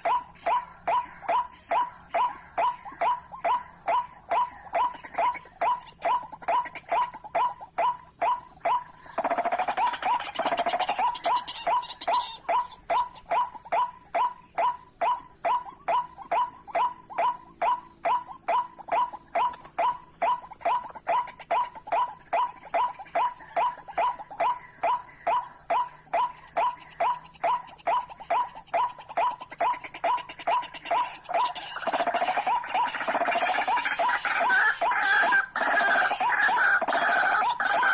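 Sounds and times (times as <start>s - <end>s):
waterhen calls: 0.0s - 37.9s.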